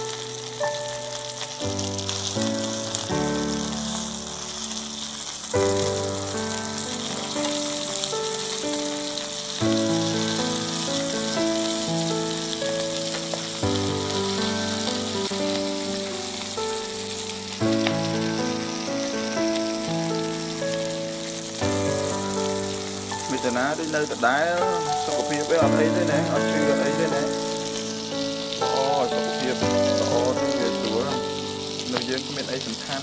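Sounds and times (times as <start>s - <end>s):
background music with held notes: 0.0s - 33.0s
chicken and onion sizzling: 0.0s - 33.0s.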